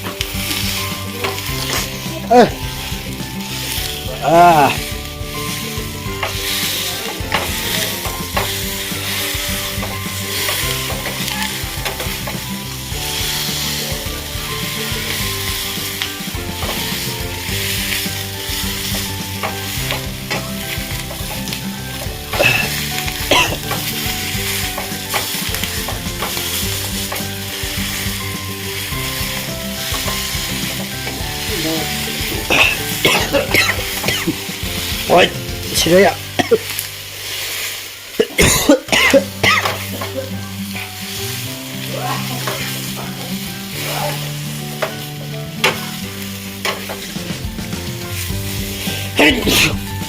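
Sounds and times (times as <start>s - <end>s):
chillies sizzling in hot oil: 0.0s - 50.0s.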